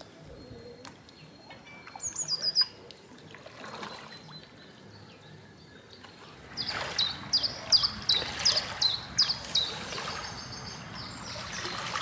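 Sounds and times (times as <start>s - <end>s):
faint water paddling: 0.0s - 12.0s
songbird chirping: 0.0s - 12.0s.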